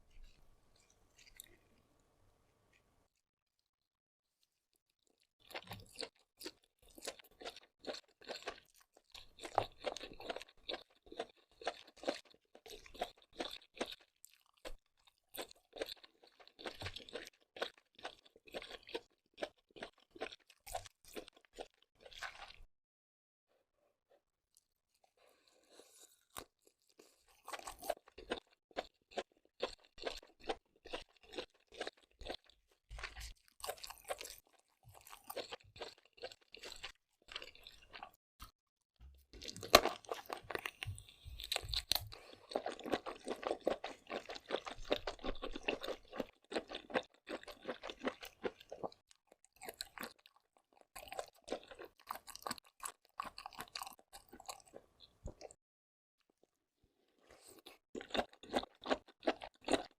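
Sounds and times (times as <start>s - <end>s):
wet chewing and crunching: 0.1s - 2.0s, 4.3s - 22.7s, 24.5s - 55.6s, 57.2s - 59.9s.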